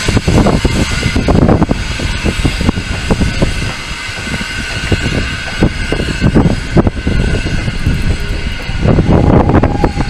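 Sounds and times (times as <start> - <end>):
steady rushing noise: 0.0 - 10.0
train coaches rolling on rails: 0.0 - 10.0.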